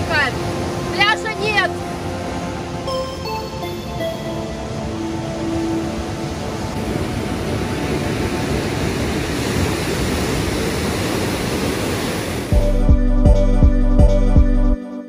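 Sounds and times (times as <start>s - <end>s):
waves breaking on shore: 0.0s - 12.6s.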